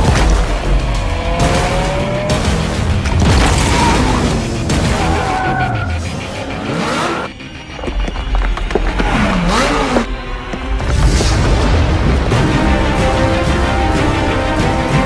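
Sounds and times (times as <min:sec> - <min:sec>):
music: 0:00.0 - 0:15.0
tyres skidding: 0:00.0 - 0:15.0
car engine revving: 0:00.1 - 0:07.6, 0:08.6 - 0:15.0.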